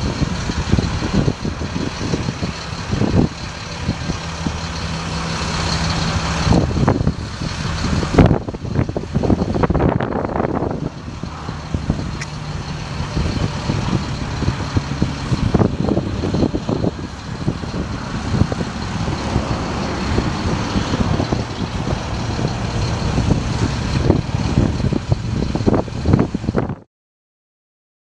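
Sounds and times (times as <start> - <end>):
truck engine running: 0.0 - 26.9.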